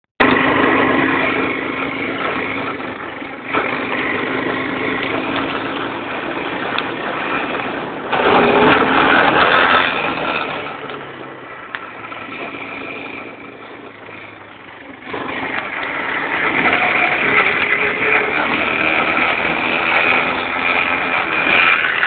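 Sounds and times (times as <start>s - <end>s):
quad bike engine running: 0.2s - 22.0s
rushing noise: 0.2s - 22.0s.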